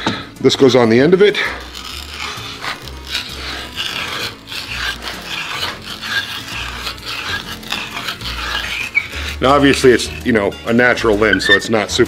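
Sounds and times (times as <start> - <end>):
die scraping wood threads: 0.6 - 12.0.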